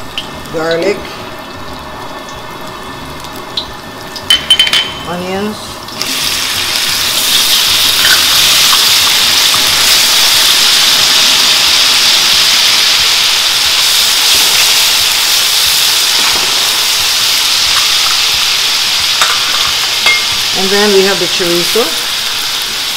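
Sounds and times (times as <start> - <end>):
onions sizzling in hot oil: 0.0 - 22.9.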